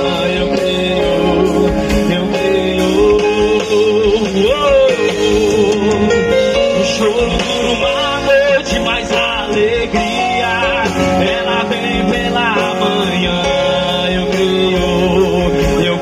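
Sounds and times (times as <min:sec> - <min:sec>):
gospel band playing: 0:00.0 - 0:16.0
man singing: 0:00.0 - 0:16.0.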